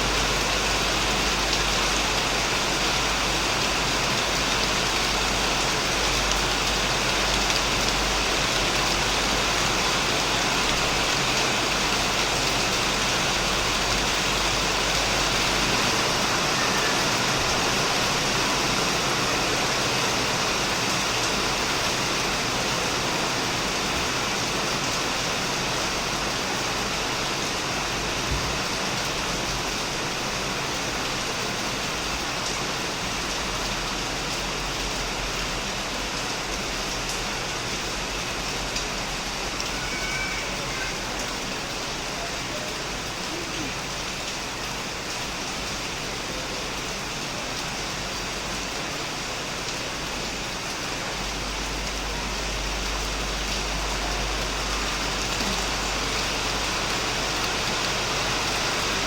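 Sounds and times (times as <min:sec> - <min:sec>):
heavy rain on shed and plants: 0:00.0 - 0:59.0.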